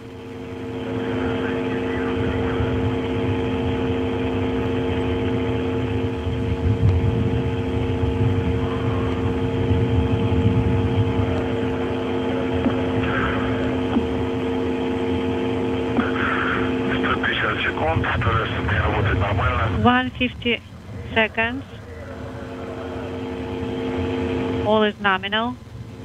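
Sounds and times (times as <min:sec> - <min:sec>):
droning hum: 0:00.0 - 0:26.0
low rumble: 0:00.0 - 0:26.0.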